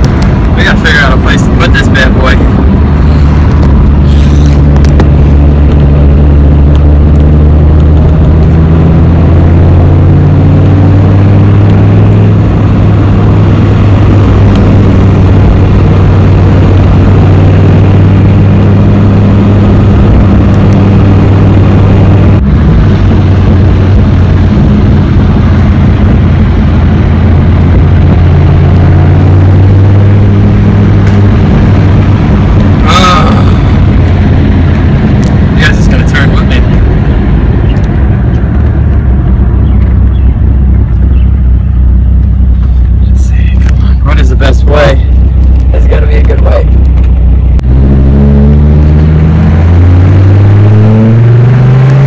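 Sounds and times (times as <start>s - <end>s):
car engine low drone: 0.0s - 52.0s.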